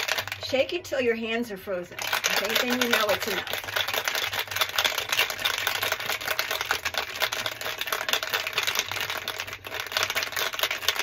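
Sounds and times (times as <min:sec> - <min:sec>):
ice rattling in cocktail shaker: 0:00.0 - 0:00.8, 0:01.9 - 0:11.0.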